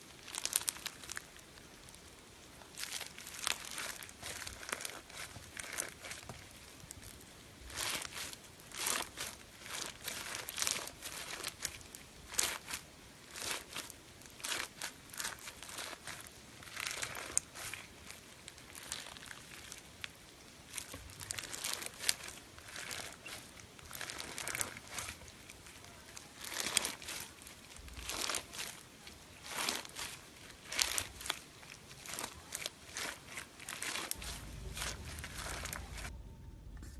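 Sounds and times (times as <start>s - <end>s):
slime crackling and crinkling: 0.0s - 36.9s.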